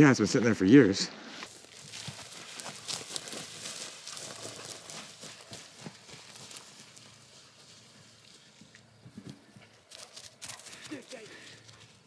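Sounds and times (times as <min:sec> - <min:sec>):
tire thudding down hillside: 0:01.4 - 0:12.0.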